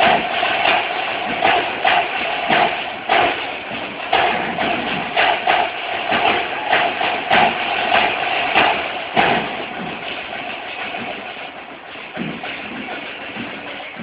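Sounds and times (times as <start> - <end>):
snare drum roll: 0.0 - 11.6.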